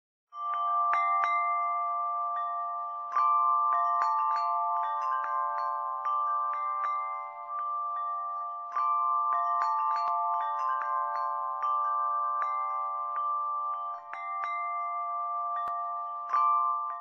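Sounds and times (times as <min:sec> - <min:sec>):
chimes ringing: 0:00.4 - 0:17.0.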